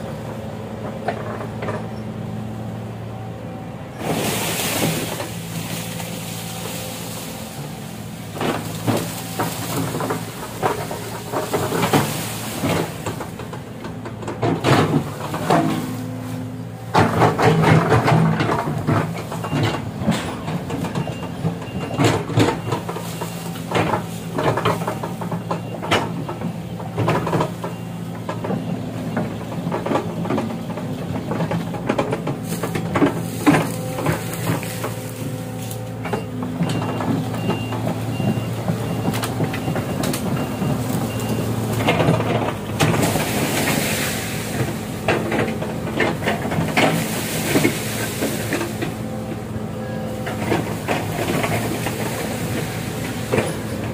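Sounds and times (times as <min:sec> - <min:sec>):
excavator diesel engine: 0:00.0 - 0:53.9.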